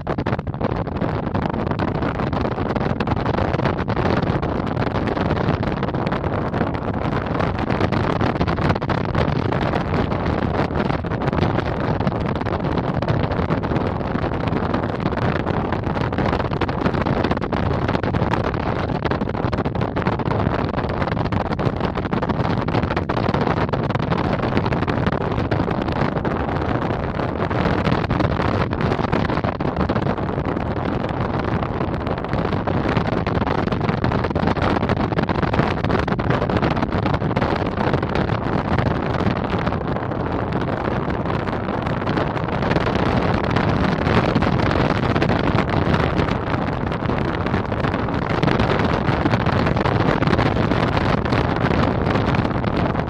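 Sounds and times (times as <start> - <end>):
wind rushing on microphone: 0.0 - 53.0.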